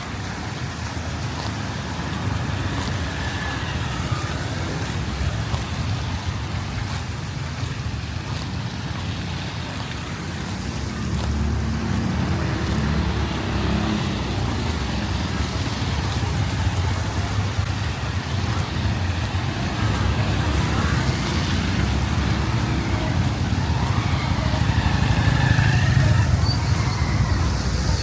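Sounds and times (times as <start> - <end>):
vehicle engine rumble: 0.0 - 28.0
water washing: 0.0 - 28.0.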